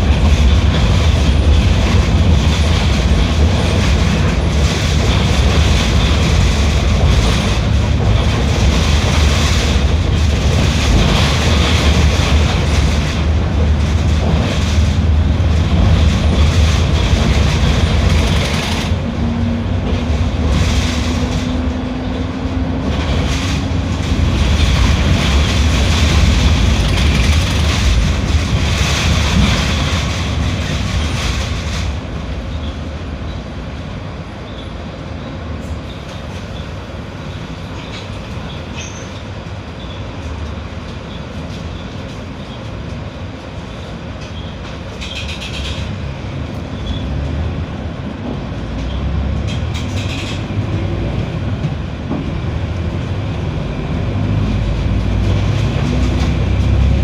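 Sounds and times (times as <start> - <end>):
bus diesel engine rumbling: 0.0 - 57.0
road and rattle noise: 0.0 - 57.0.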